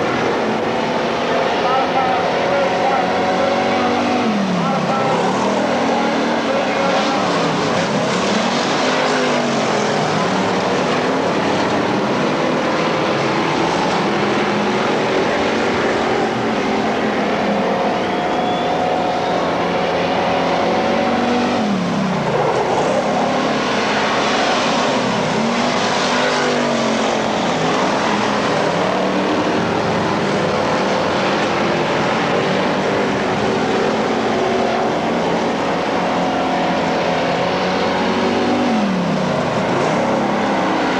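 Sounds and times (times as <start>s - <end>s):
race car engines revving: 0.0s - 40.9s.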